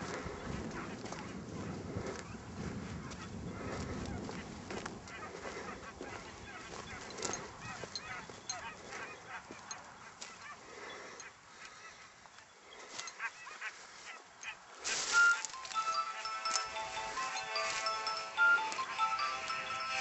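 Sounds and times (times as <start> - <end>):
distant hounds baying: 0.0 - 20.0.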